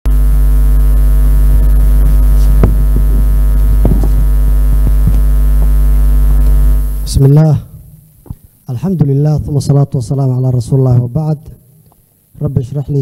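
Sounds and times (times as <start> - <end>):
electrical mains hum: 0.1 - 13.0.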